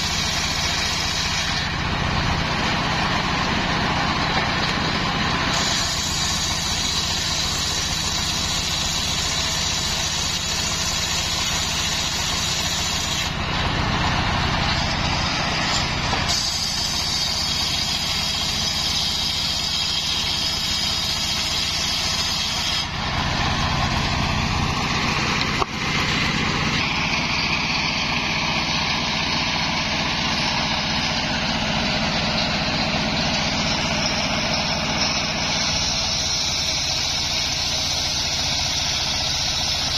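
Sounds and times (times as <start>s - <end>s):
saw blade whine: 0.0s - 39.9s
sawmill engine running: 0.0s - 39.9s.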